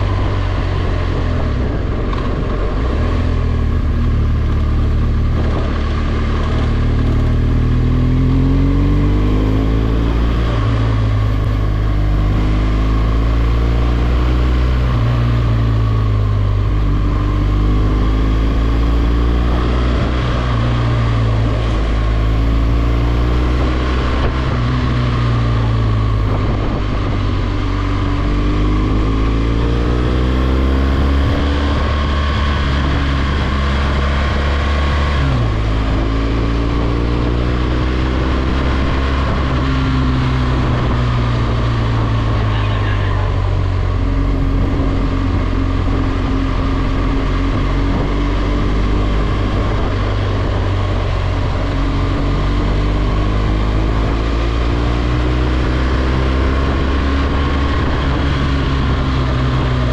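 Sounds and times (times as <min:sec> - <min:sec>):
motorcycle engine at road speed: 0:00.0 - 0:59.9.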